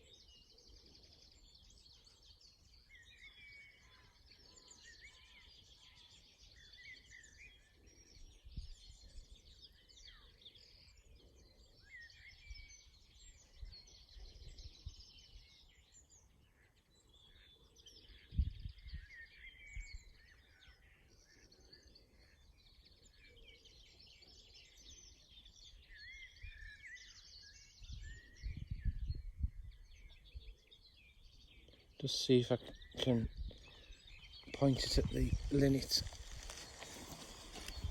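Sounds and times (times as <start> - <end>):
linnet twittering song: 0.0 - 37.9.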